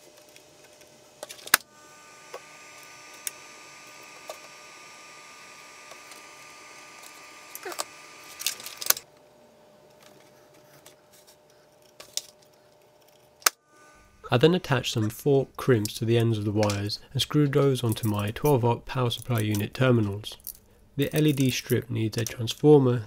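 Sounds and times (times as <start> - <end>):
steady hum with high whine: 0.0 - 23.0.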